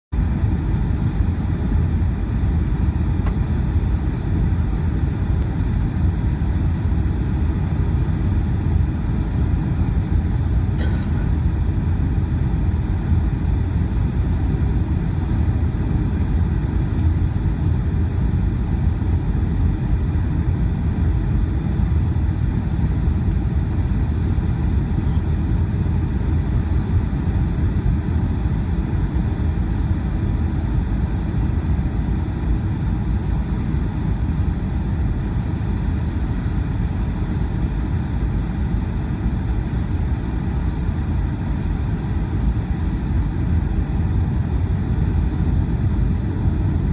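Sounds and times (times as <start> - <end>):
aircraft cabin engine rumble: 0.1 - 46.9.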